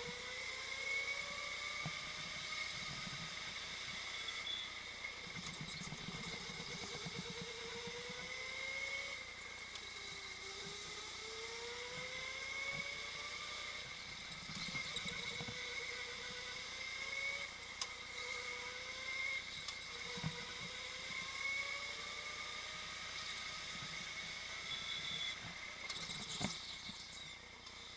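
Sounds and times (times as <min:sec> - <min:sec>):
go-kart motor whining: 0:00.0 - 0:27.9.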